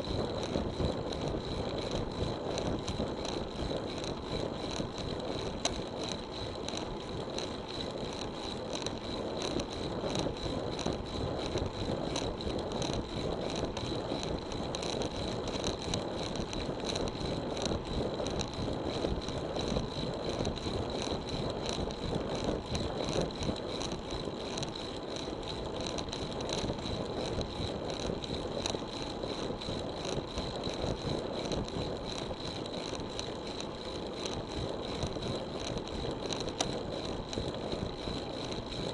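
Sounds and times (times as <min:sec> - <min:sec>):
bicycle rolling road noise: 0:00.0 - 0:38.9.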